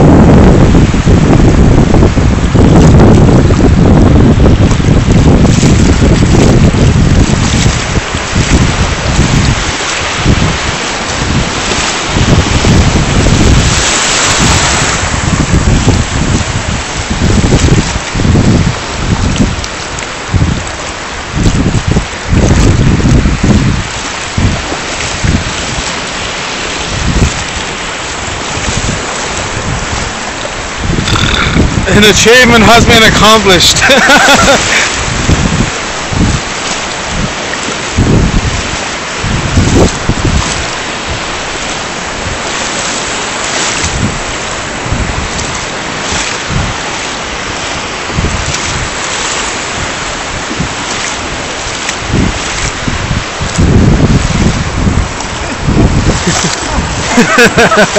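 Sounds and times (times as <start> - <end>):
small surf waves splashing: 0.0 - 57.9
wind buffeting microphone: 0.0 - 57.9.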